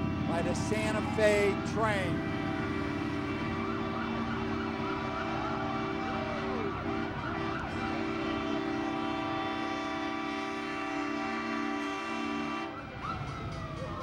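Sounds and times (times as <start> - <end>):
emergency vehicle sirens: 0.0 - 14.0.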